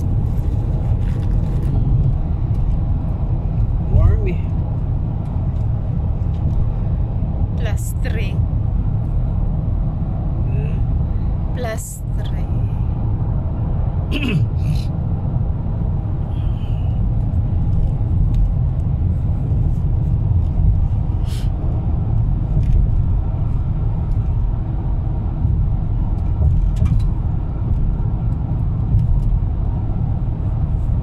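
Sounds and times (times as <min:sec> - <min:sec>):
car interior road rumble: 0:00.0 - 0:31.0.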